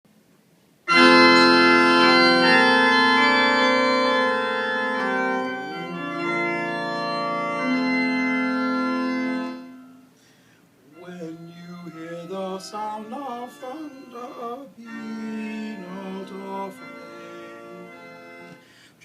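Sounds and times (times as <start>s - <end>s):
organ playing held chords: 0.9s - 18.8s.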